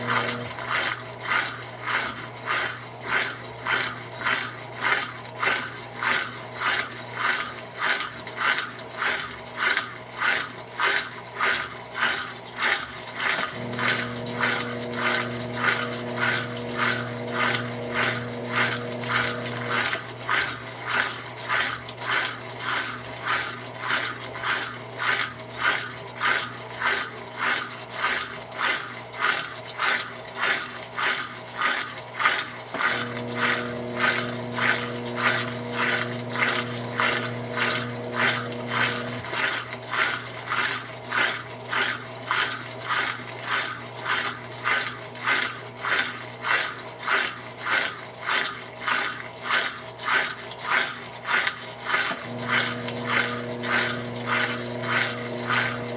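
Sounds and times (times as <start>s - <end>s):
washing machine motor hum: 0.0s - 55.9s
washing machine swishing water: 0.0s - 55.9s.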